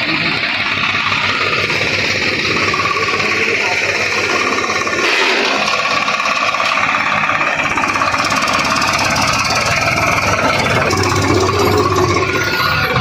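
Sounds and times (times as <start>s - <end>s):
tractor diesel engine chugging: 0.0s - 13.0s.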